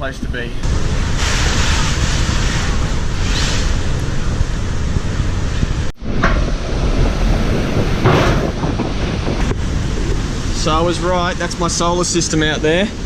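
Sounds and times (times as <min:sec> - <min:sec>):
wind buffeting microphone: 0:00.5 - 0:13.0.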